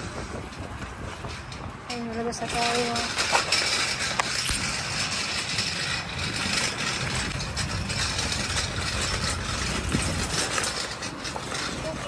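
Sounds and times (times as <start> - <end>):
shopping cart rolling on asphalt: 0.0 - 12.0
wire basket rattling: 1.3 - 12.0.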